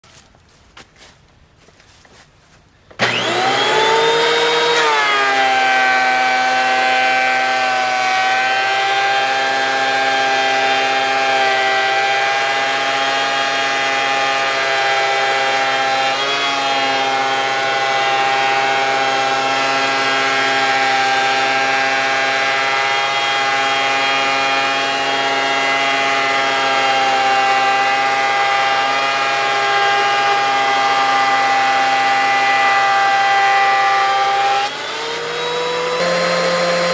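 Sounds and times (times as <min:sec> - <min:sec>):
chainsaw revving: 0:03.0 - 0:36.9.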